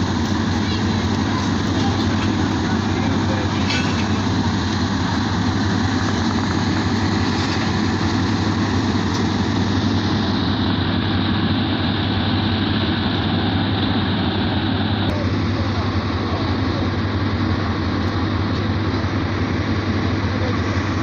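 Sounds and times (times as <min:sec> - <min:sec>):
diesel train engine idling: 0:00.0 - 0:21.0.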